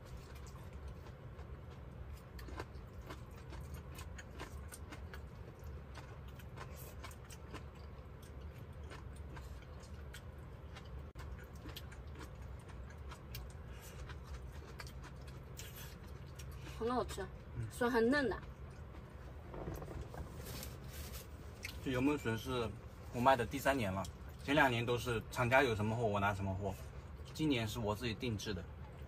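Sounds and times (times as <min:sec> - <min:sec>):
quiet chewing: 0:00.0 - 0:25.4
steady low hum: 0:00.0 - 0:29.0.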